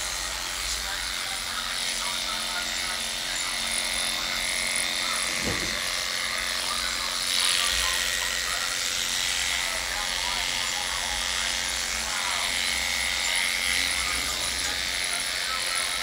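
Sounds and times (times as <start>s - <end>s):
electric dog clipper humming: 0.0s - 16.0s.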